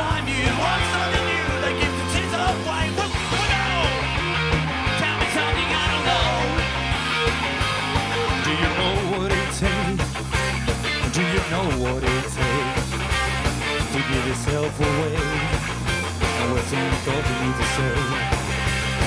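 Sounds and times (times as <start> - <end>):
guitar: 0.0 - 19.0
rock band playing live: 0.0 - 19.0.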